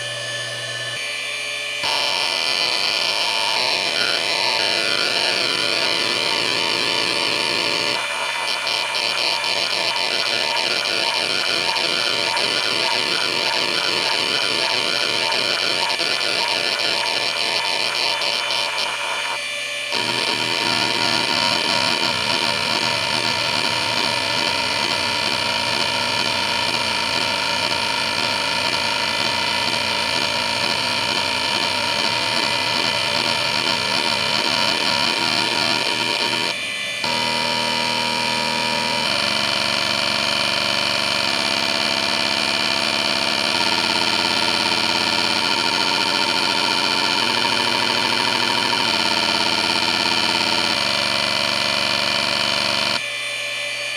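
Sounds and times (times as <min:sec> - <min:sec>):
hard drive whining: 0:00.0 - 0:53.9
hard drive seek chatter: 0:01.9 - 0:53.0.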